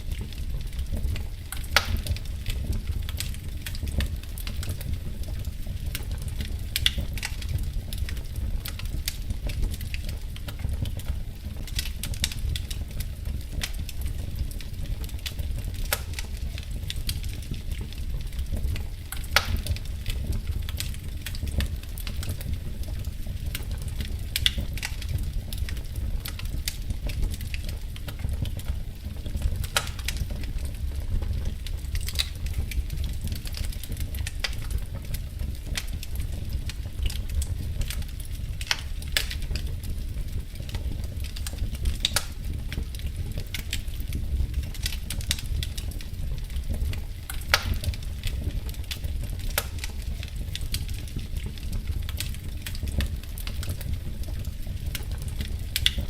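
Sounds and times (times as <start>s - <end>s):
fire pops and snaps: 0.0s - 56.0s
low rumble of burning fire: 0.0s - 56.0s
wood fire crackling: 0.0s - 56.0s.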